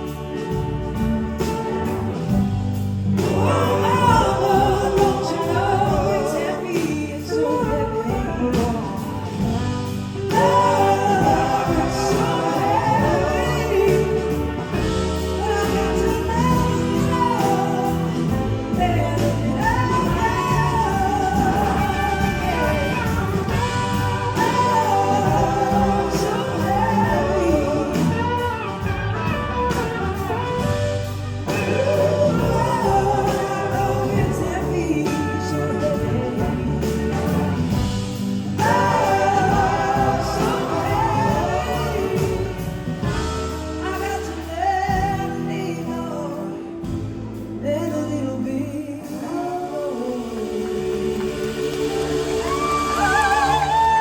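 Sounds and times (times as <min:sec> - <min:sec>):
bass: 0:00.0 - 0:54.0
drums: 0:00.0 - 0:54.0
keyboards: 0:00.0 - 0:54.0.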